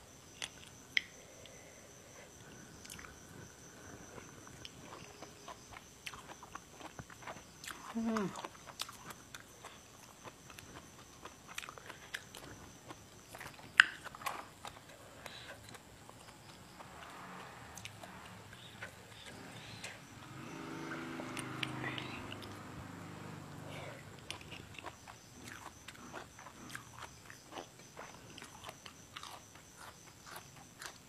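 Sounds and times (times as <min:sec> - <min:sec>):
faint low hum: 0:00.0 - 0:31.0
person chewing vegetables: 0:02.3 - 0:20.1, 0:23.5 - 0:31.0.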